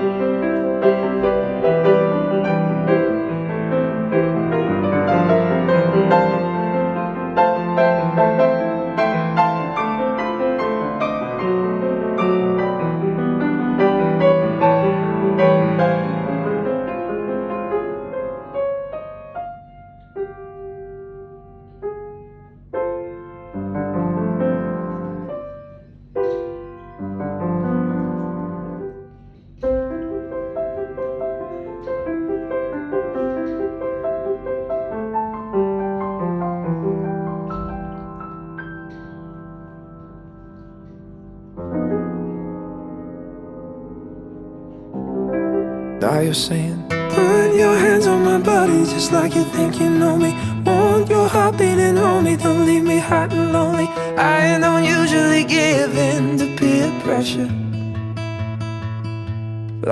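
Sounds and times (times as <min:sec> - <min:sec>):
piano playing: 0:00.0 - 0:59.9.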